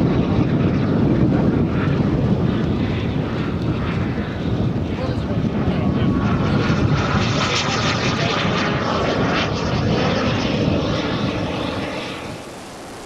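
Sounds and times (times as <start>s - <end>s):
model jet turbines roaring: 0.0s - 13.0s.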